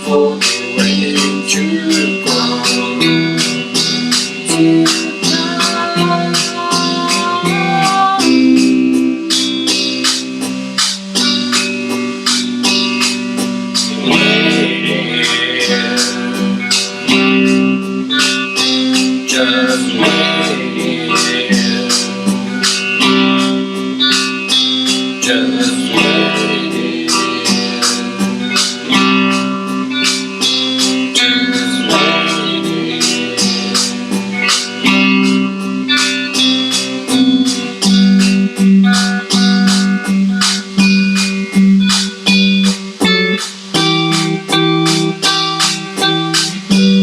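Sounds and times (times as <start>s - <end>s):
strummed guitar: 0.0s - 47.0s.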